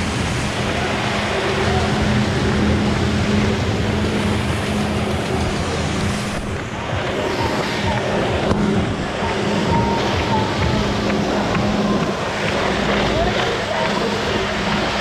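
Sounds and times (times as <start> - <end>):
engine droning: 0.0 - 15.0
water jets rushing: 0.0 - 15.0.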